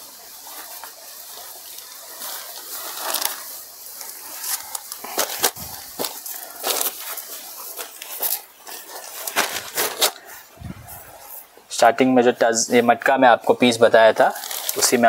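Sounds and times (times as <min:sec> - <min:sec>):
cloth crackling: 0:00.0 - 0:15.0
silk cloth rustling: 0:00.0 - 0:15.0.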